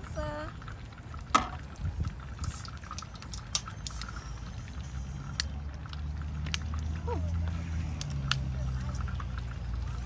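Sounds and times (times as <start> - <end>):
low steady rumble: 0.0 - 10.0
oysters deep-frying in oil: 0.0 - 10.0.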